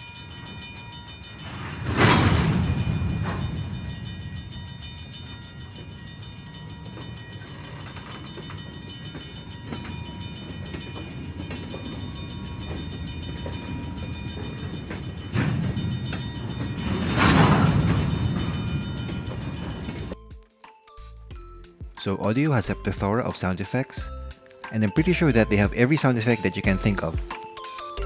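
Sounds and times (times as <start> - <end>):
train rumbling: 0.0 - 20.2, 22.0 - 27.2
wheels clicking on rail: 0.0 - 20.2, 22.0 - 28.0.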